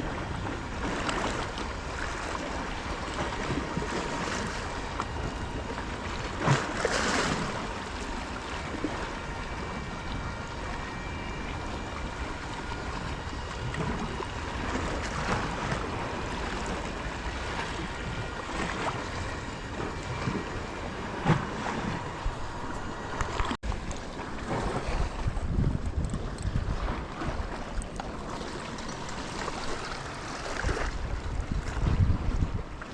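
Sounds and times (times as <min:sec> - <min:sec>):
sea surf on rocky shore: 0:00.0 - 0:32.9.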